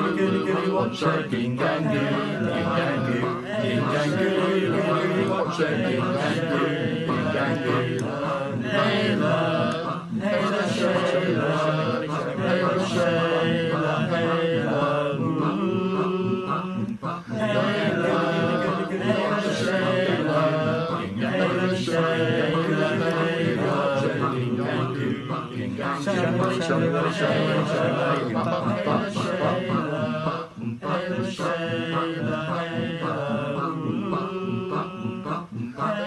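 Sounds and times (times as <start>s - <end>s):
young men chanting a song: 0.0s - 36.0s.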